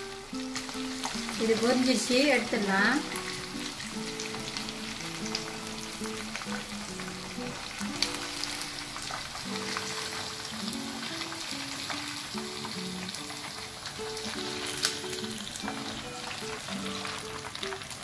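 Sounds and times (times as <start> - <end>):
chicken deep-frying in oil: 0.0 - 18.0
soft background music: 0.0 - 18.0.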